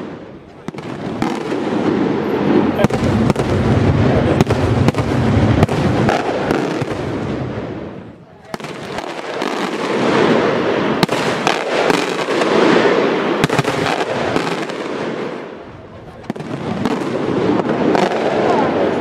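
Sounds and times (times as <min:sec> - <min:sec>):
fireworks bangs: 0:00.0 - 0:19.0
fireworks crackle: 0:00.0 - 0:19.0.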